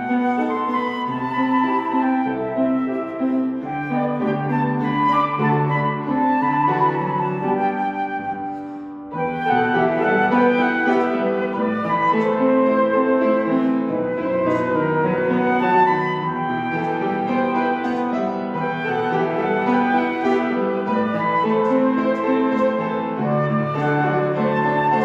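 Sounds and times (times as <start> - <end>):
piano accompaniment: 0.0 - 25.0.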